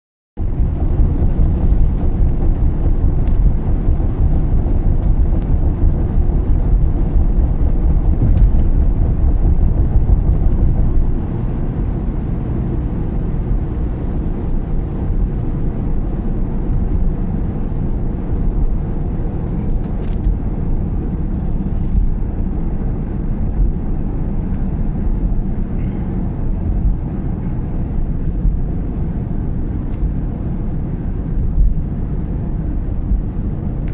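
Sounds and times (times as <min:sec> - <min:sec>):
car tyres and engine rumble: 0:00.4 - 0:33.9.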